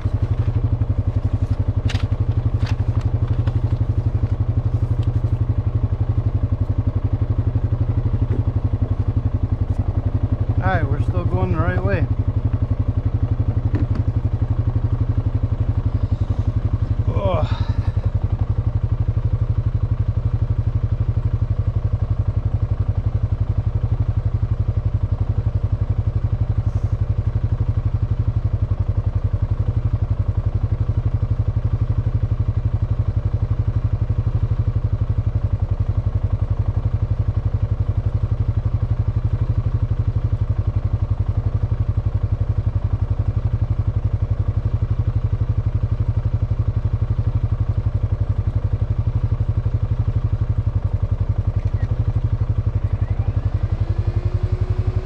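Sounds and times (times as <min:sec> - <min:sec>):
atv engine idling: 0:00.0 - 0:55.0.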